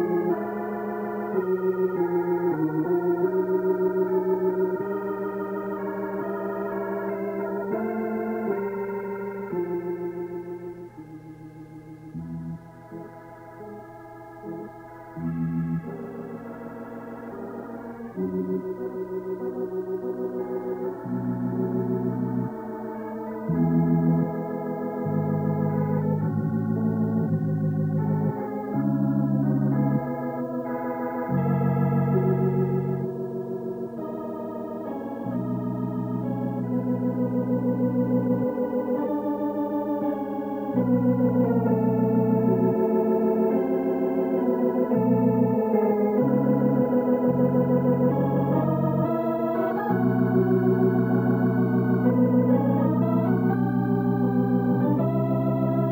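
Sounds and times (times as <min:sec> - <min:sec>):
organ chords: 0:00.0 - 0:55.9.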